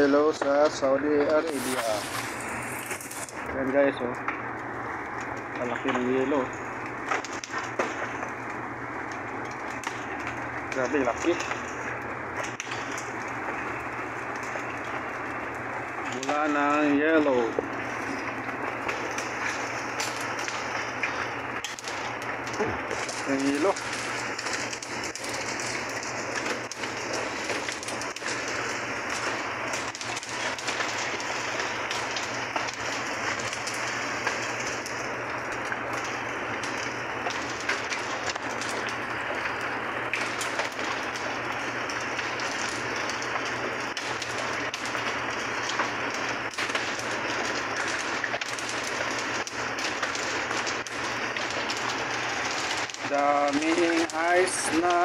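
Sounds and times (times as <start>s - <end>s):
hailstones ticking: 0.0s - 55.0s
rain pattering on paving: 0.0s - 55.0s.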